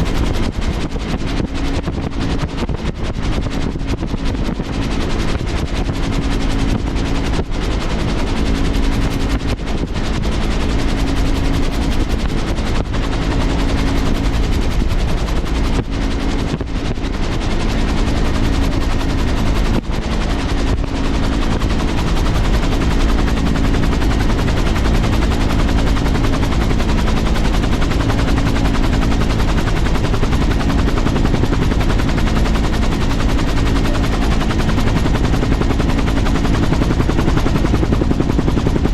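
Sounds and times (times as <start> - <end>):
powerful engine running: 3.7 - 38.9.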